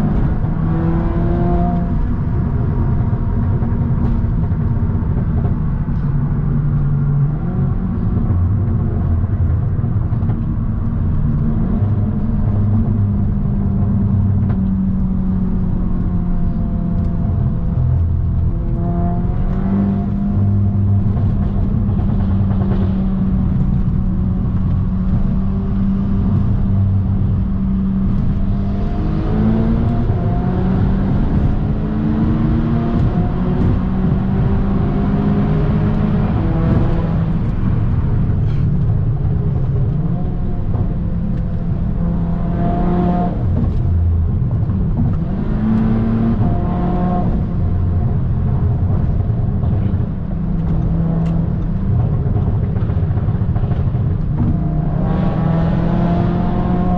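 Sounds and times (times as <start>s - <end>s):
car engine and exhaust drone: 0.0s - 56.9s.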